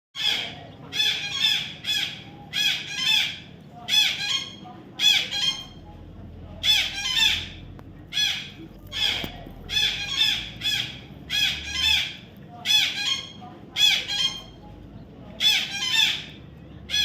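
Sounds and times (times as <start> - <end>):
parrot squawking: 0.2 - 5.8, 6.6 - 14.6, 15.4 - 17.0.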